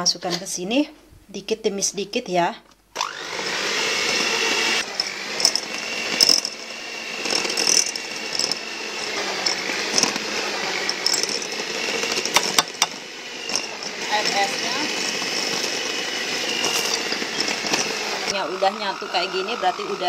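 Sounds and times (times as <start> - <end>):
electric hand mixer running: 3.0 - 20.0.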